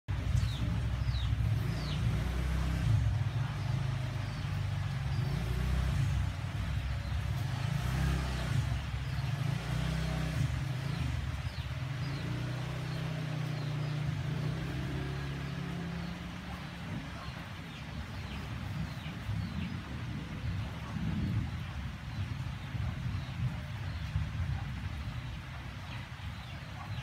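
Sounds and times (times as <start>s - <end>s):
low engine rumble: 0.1s - 27.0s.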